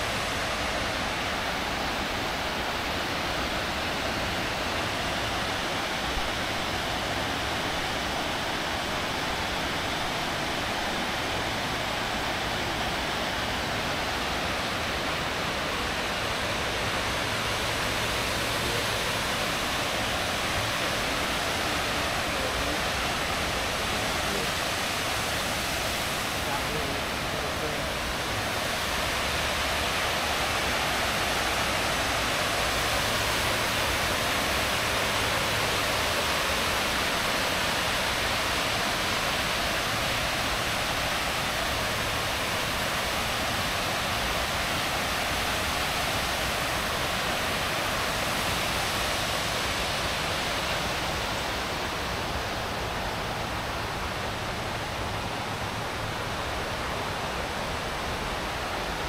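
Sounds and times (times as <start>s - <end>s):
waterfall over rocks: 0.0s - 59.0s.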